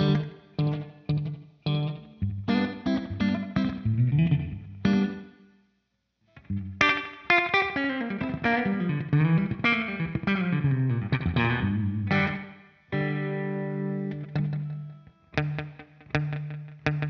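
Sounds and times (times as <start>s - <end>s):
electric guitar with delay: 0.0s - 5.3s, 6.4s - 17.0s.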